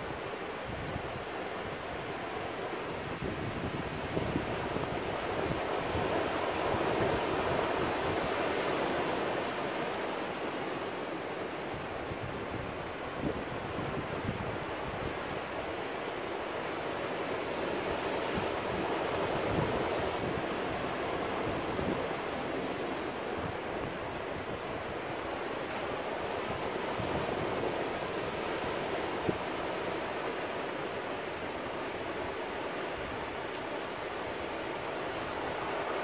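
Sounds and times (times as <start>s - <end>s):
surf washing over rocks: 0.0s - 36.0s.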